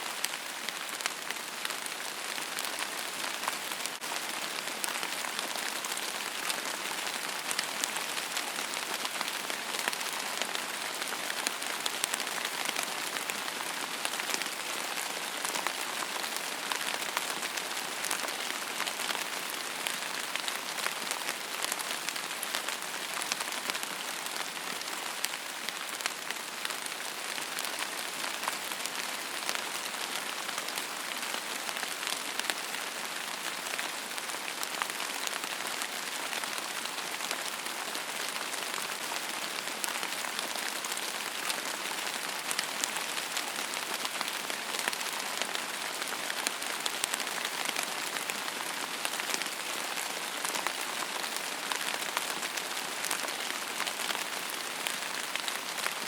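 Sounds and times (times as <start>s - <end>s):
rain on a hard surface: 0.0s - 56.0s.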